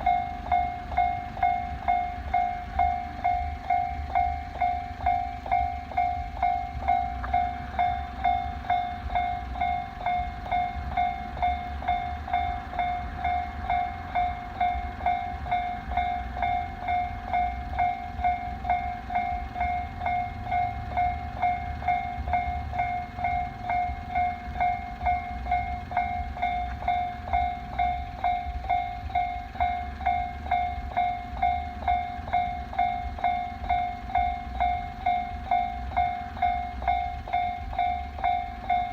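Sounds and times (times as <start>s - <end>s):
level crossing bell alarm: 0.0s - 38.9s.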